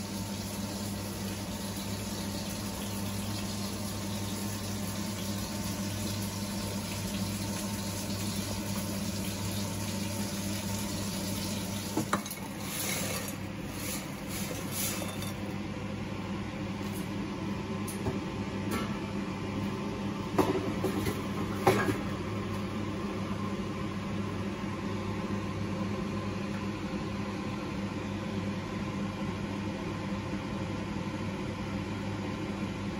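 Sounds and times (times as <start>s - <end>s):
air fryer fan hum: 0.0s - 32.9s.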